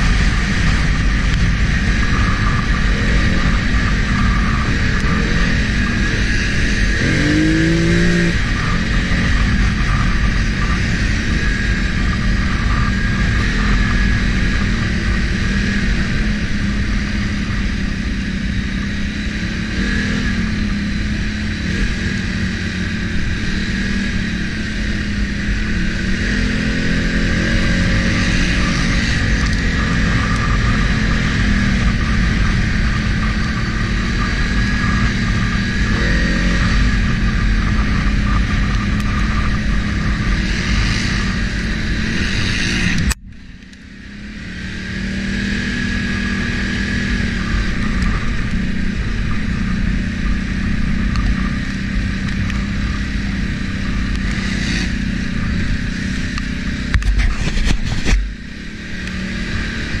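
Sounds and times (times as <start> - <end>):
atv engine running: 0.0 - 60.0.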